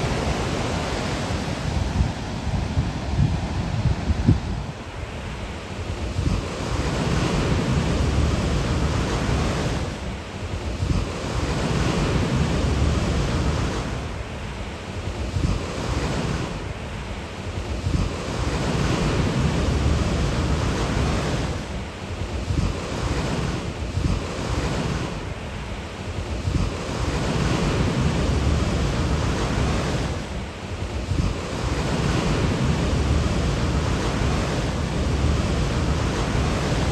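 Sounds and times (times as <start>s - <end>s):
surf breaking ashore: 0.0s - 36.9s
wind buffeting microphone: 0.0s - 36.9s.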